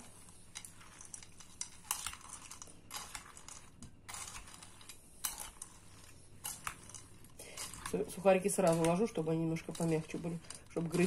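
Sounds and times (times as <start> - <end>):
spoon stirring croutons: 0.0 - 11.0.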